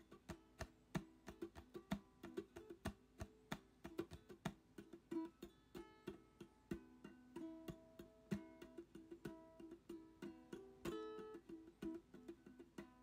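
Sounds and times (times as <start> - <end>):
plucked string music: 0.0 - 13.0.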